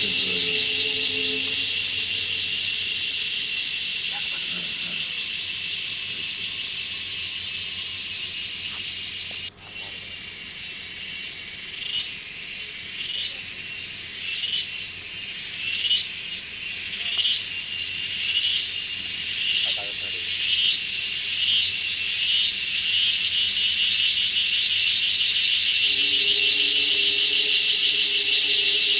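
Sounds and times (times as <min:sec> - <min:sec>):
forest insects droning: 0:00.0 - 0:28.9.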